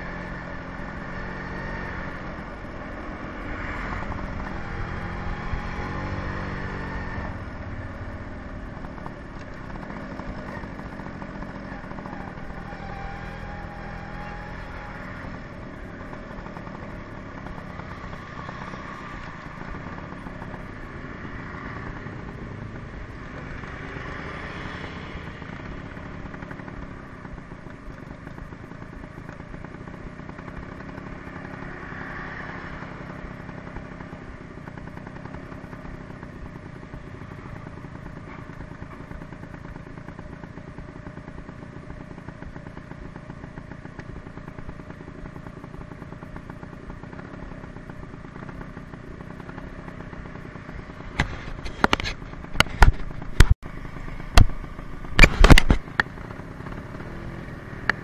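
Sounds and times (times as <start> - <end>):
motorcycle idling: 0.0 - 58.0
scooter engine running: 0.0 - 58.0.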